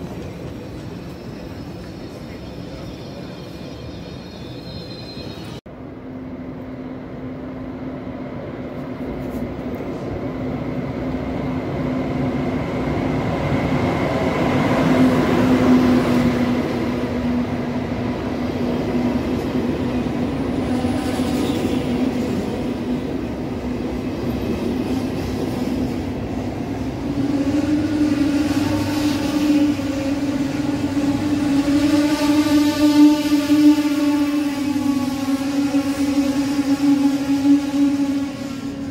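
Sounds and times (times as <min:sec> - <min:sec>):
high-speed train passing: 0:00.0 - 0:38.9.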